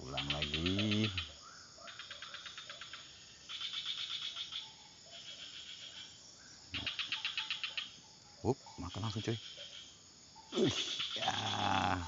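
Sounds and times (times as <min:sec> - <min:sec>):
crickets chirping in buzzy trills: 0:00.0 - 0:12.0.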